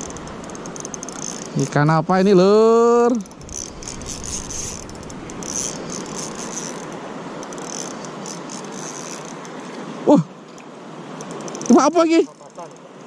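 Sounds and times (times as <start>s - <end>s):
fishing reel whirring and ticking: 0.0s - 9.5s, 10.5s - 12.9s.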